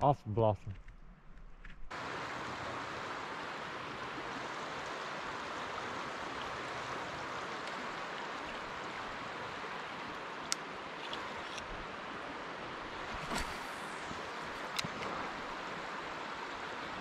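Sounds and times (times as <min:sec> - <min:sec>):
creek water rushing: 0:01.9 - 0:17.0.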